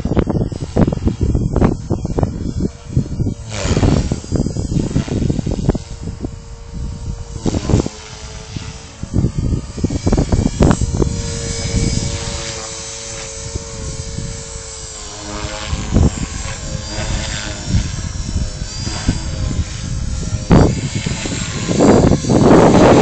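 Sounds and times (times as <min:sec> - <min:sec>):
rc helicopter rotor whine: 0:00.0 - 0:23.0
wind buffeting microphone: 0:00.0 - 0:23.0.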